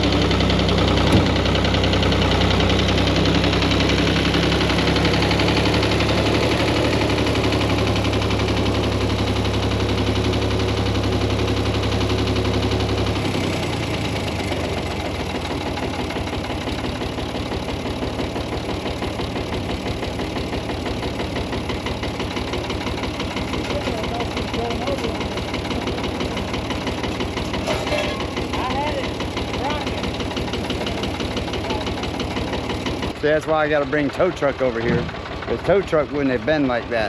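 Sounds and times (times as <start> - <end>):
vehicle engine droning: 0.0 - 37.0.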